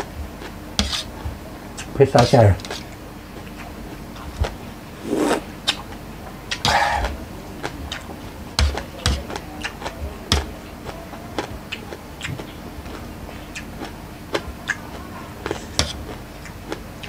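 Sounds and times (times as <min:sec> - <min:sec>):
wet chewing and crunching: 0:02.7 - 0:17.0.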